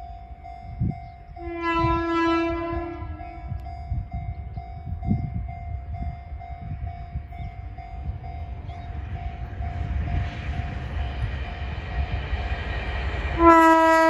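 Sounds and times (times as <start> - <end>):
level crossing pulsing warning tone: 0.0 - 14.0
train rumbling: 0.0 - 14.0.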